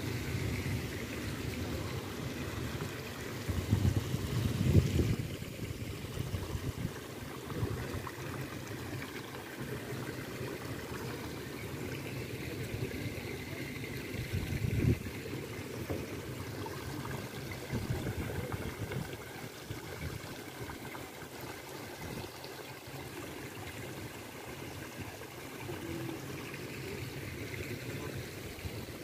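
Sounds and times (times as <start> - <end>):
water trickling over pebbles: 0.0 - 29.0.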